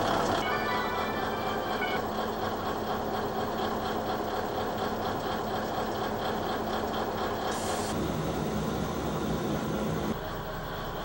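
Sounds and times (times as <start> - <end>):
diesel railcar engine idling: 0.0 - 11.0.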